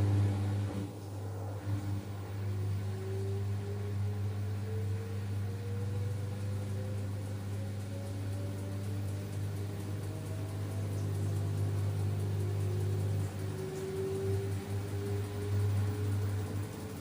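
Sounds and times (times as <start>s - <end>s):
rising motor whine: 0.0s - 17.0s
washing machine spin hum: 0.0s - 17.0s.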